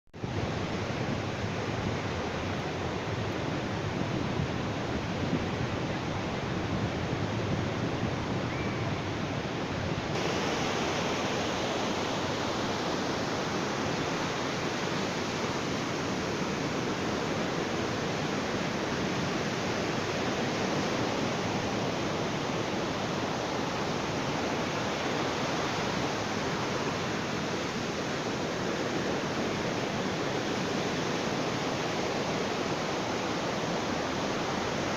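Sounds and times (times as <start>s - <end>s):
ocean waves on beach: 0.2s - 34.9s.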